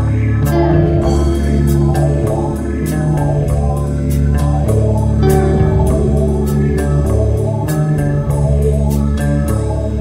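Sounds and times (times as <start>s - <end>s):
guitar-led background music: 0.0s - 10.0s.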